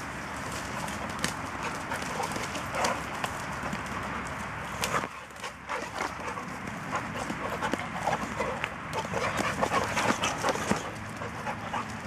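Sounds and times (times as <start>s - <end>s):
dog paws scuffling on dirt: 0.1s - 12.0s.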